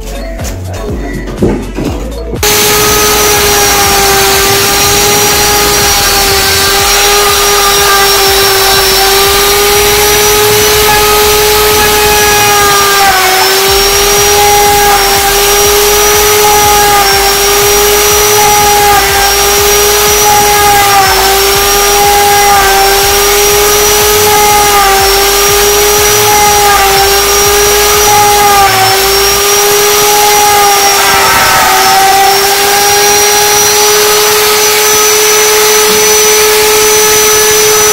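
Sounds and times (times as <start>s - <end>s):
router cutting wood: 2.4s - 37.9s.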